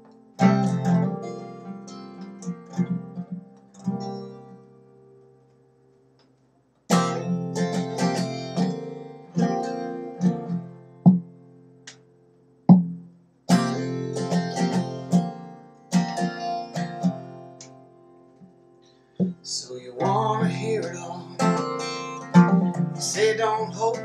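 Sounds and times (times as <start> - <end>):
acoustic guitar strumming: 0.0 - 6.1, 6.9 - 24.0.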